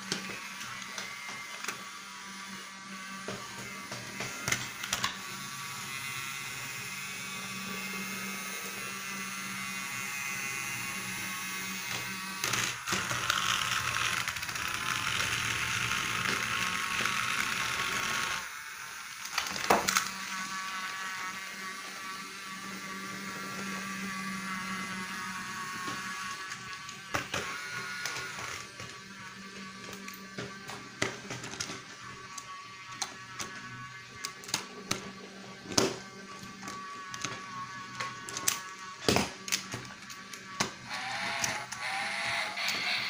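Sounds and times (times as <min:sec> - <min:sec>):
toy train motors whirring: 0:00.0 - 0:43.0.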